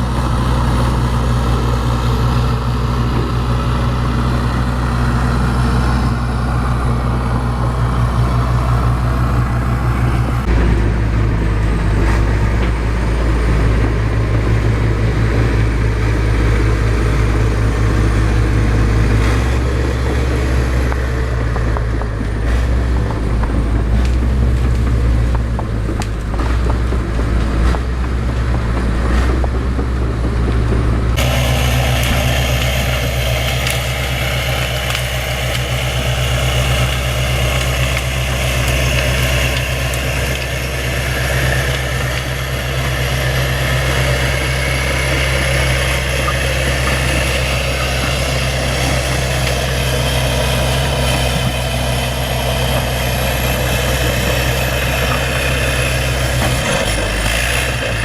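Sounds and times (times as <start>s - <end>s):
diesel engine running: 0.0s - 58.0s
rattly mechanical noise: 0.0s - 58.0s.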